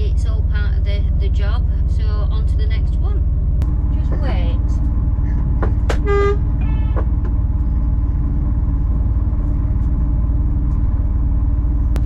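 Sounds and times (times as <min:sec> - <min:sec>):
lorry diesel engine rumbling: 0:00.0 - 0:12.0.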